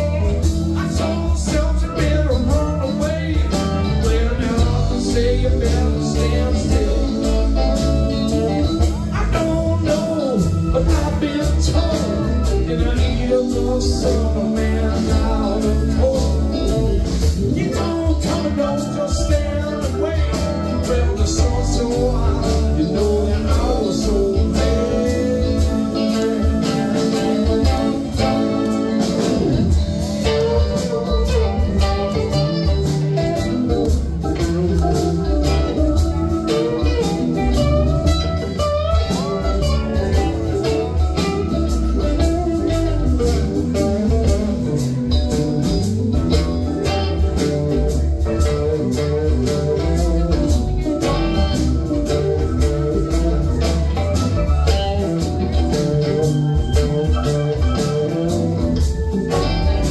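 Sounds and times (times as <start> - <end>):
gliding lead guitar lines: 0.0 - 59.9
live rock band playing: 0.0 - 59.9.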